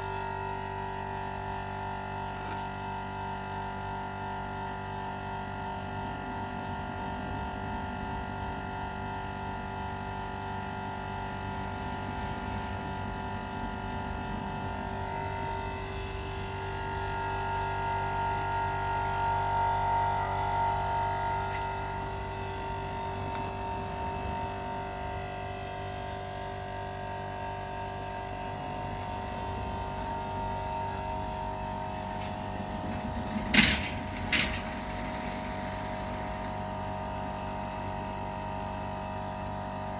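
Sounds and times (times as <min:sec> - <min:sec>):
air compressor humming: 0:00.0 - 0:39.9.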